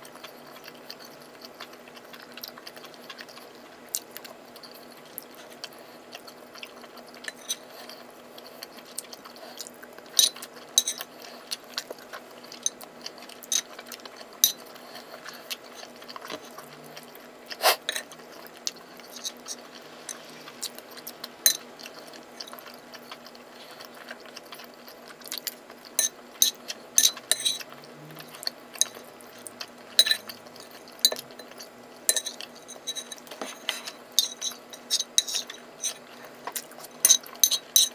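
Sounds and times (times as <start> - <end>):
chewing: 0.0 - 37.9.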